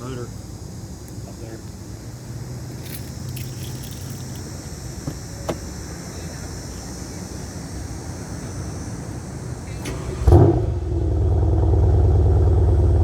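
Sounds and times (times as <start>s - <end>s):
high even hiss: 0.0s - 10.6s.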